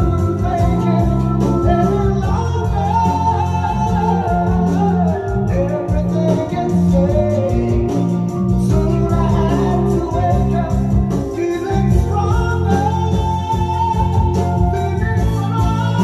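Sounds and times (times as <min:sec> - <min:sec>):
rock song over loudspeakers: 0:00.0 - 0:16.0.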